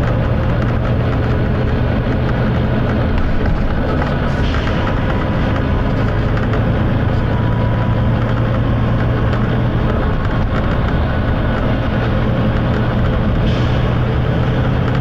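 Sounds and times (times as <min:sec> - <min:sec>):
bus diesel engine running: 0:00.0 - 0:15.0
road and body rumble: 0:00.0 - 0:15.0.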